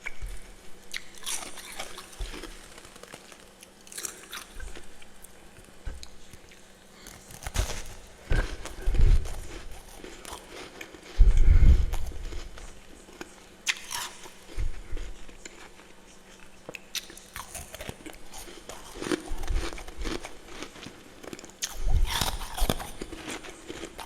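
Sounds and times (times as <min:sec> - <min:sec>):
chewing crunchy frost: 0:00.0 - 0:24.0.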